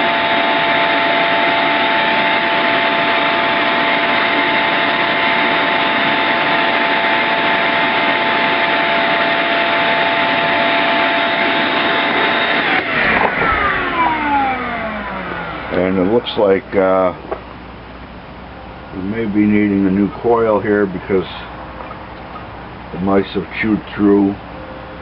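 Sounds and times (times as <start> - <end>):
shop vac motor whining: 0.0 - 23.5.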